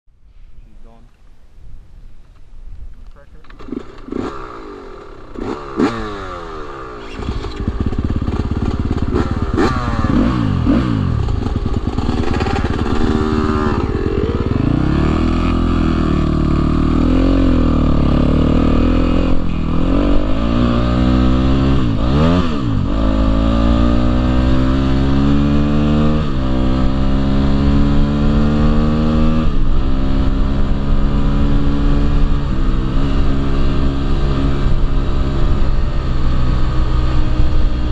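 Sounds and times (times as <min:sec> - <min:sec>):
dirt bike engine accelerating: 0:03.4 - 0:37.9.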